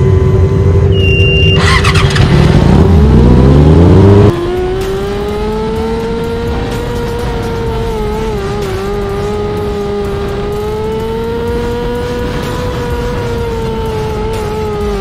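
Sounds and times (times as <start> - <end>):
race car engine revving: 0.4 - 15.0.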